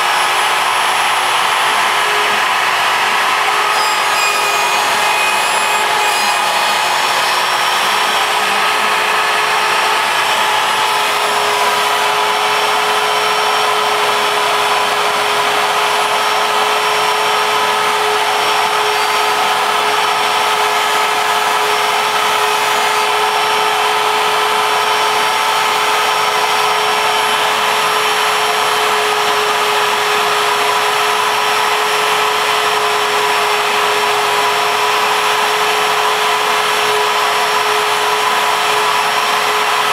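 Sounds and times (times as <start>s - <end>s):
bit cutting through wood: 0.0s - 39.9s
router spindle whining: 0.0s - 39.9s.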